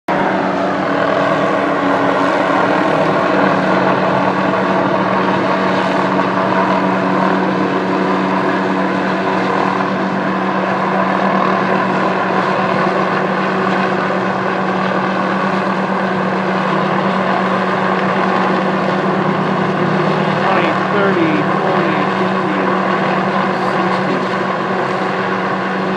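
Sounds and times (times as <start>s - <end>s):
helicopter droning: 0.1s - 25.9s.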